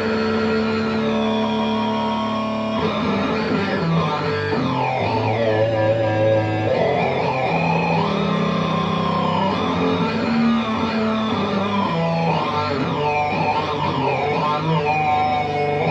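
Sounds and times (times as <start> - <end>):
synth-like fuzz guitar notes: 0.0 - 15.9.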